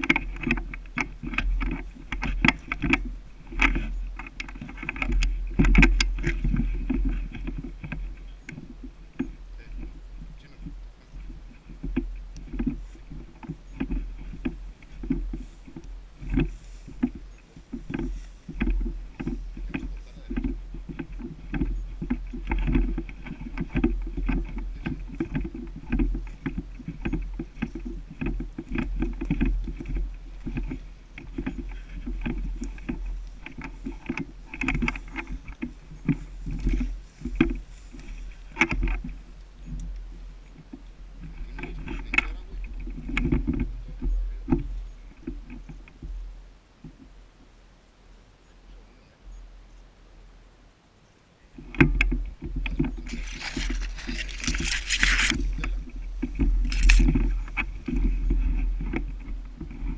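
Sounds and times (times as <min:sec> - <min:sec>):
footsteps rustling through woodland: 0:00.0 - 0:47.4, 0:51.5 - 0:59.9
wind rumble on microphone: 0:00.0 - 0:47.8, 0:51.5 - 0:59.9.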